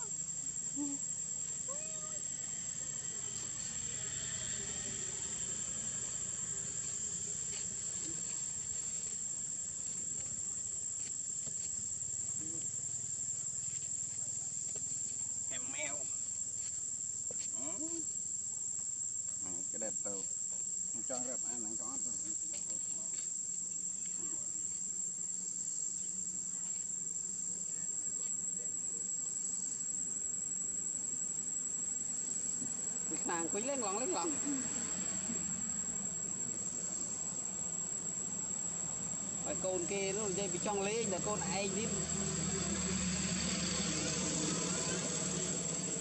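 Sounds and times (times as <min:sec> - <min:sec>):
insects calling: 0:00.0 - 0:46.0.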